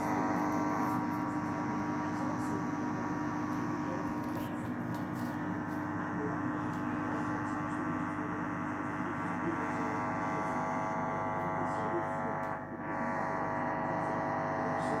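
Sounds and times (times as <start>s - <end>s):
washing machine chugging hum: 0.0s - 15.0s.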